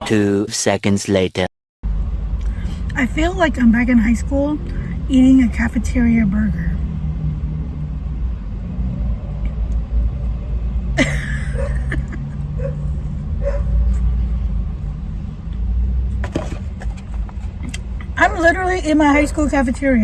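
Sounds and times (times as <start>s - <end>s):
vehicle rumble: 1.8s - 20.0s.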